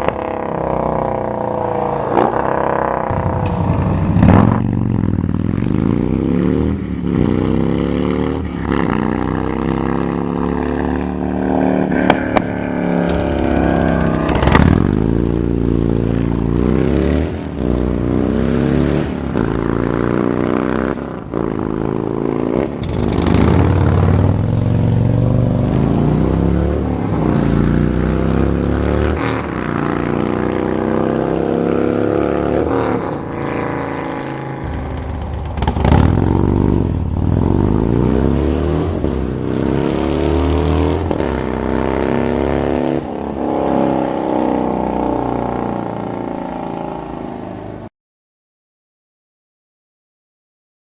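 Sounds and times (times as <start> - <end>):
motorcycle engine revving: 0.0 - 47.3.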